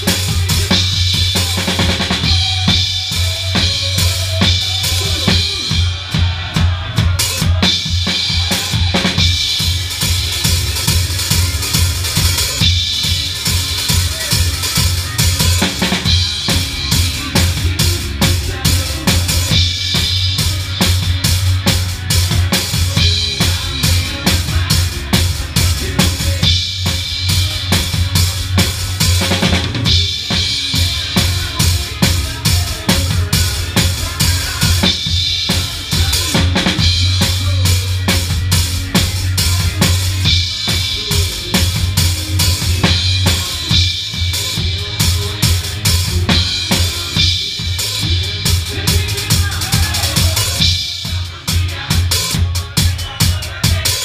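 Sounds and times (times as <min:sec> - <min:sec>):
bass line: 0:00.0 - 0:54.0
drum kit playing: 0:00.0 - 0:54.0.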